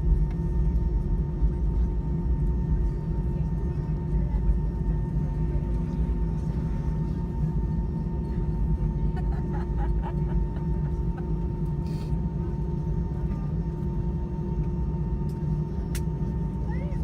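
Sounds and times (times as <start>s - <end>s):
aircraft cabin hum: 0.0s - 17.0s.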